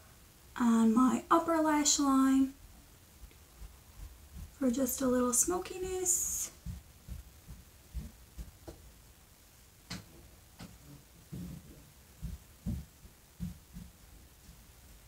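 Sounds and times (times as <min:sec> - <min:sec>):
faint low thumps: 0:02.6 - 0:15.0.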